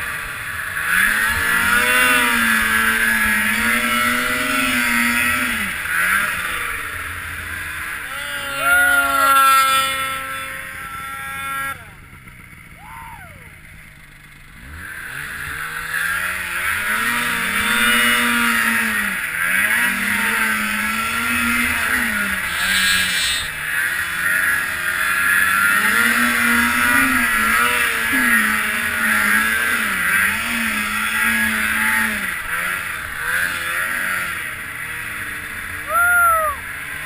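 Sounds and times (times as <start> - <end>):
snowmobile engine revving: 0.0 - 37.0.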